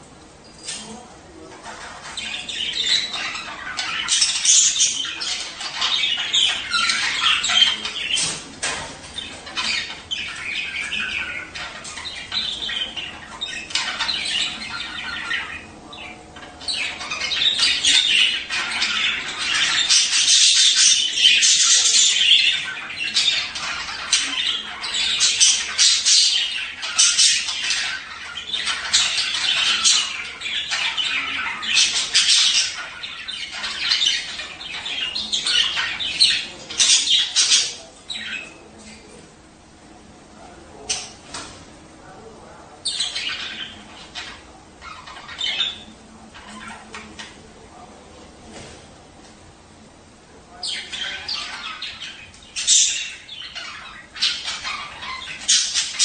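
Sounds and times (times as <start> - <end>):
budgerigars chirping: 0.5 - 39.2, 40.4 - 41.5, 42.1 - 48.0, 50.4 - 56.0.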